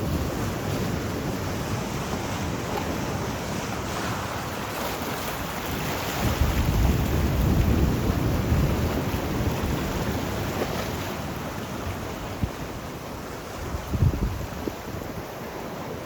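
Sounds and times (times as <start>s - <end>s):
sea waves breaking: 0.0s - 16.0s
wind rumble on microphone: 0.0s - 16.0s.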